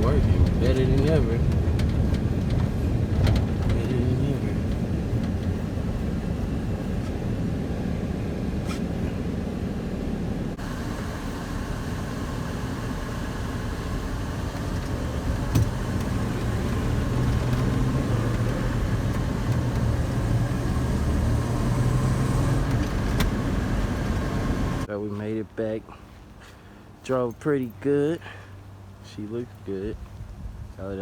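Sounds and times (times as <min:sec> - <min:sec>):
truck engine rumbling: 0:00.0 - 0:29.9
road noise: 0:00.0 - 0:31.0.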